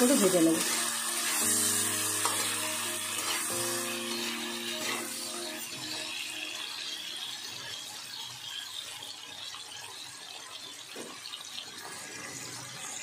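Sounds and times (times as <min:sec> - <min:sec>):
shrimp sizzling in hot oil: 0:00.0 - 0:13.0.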